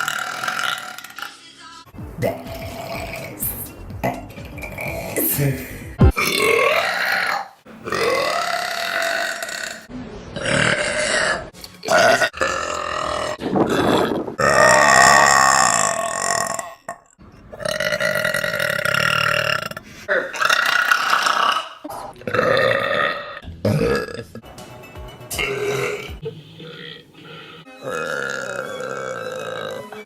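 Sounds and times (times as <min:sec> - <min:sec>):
woman burping: 0:00.0 - 0:01.3, 0:04.0 - 0:09.8, 0:10.8 - 0:24.4, 0:25.4 - 0:30.0.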